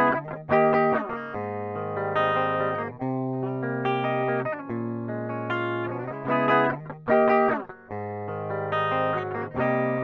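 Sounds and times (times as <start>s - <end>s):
clean electric guitar: 0.0s - 10.0s.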